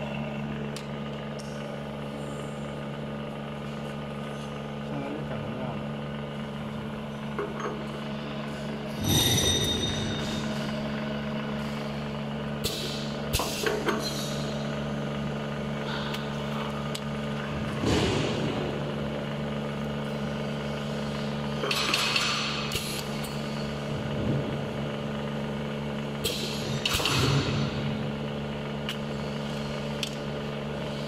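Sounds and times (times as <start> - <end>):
machine humming: 0.0 - 31.0.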